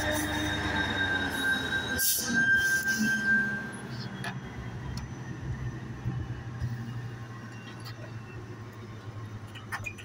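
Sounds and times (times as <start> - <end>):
train rumbling to a stop: 0.0 - 10.0.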